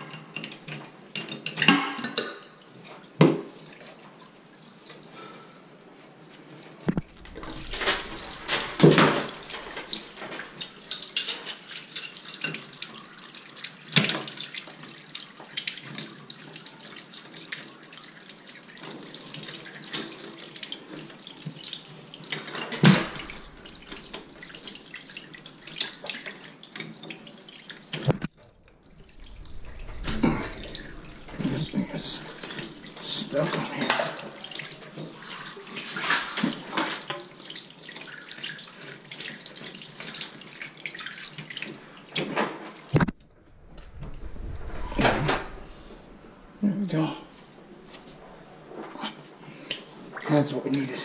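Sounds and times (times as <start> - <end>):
water running and splashing: 6.5 - 51.0.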